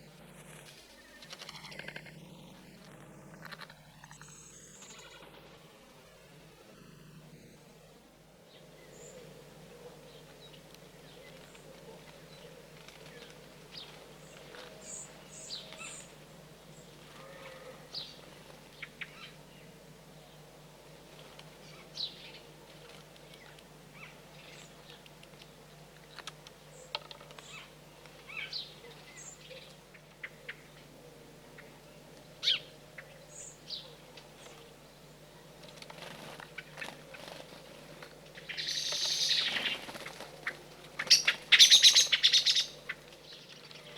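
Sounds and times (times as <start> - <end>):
small birds chirping: 0.0 - 5.5, 7.5 - 43.9
faint low hum: 0.0 - 43.9.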